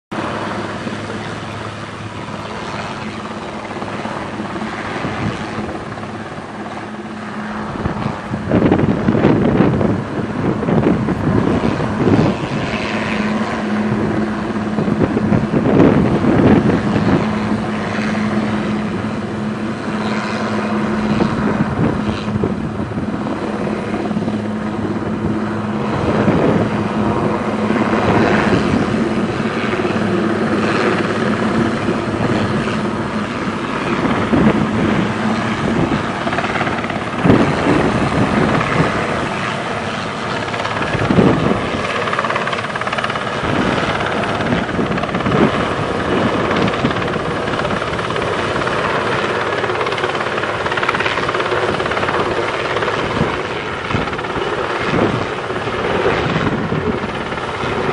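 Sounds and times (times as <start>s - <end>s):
helicopter hovering: 0.1s - 57.9s.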